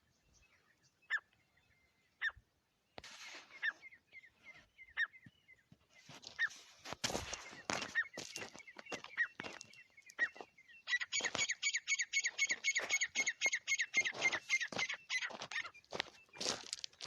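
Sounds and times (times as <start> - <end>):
partridge calling: 3.1 - 16.8.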